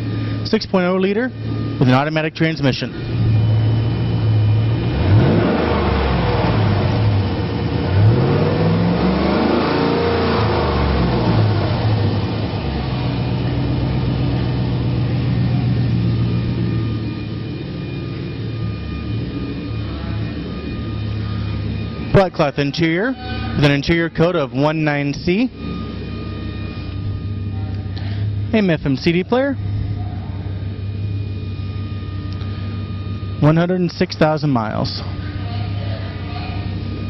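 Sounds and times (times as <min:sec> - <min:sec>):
truck engine idling and revving: 0:00.0 - 0:37.0.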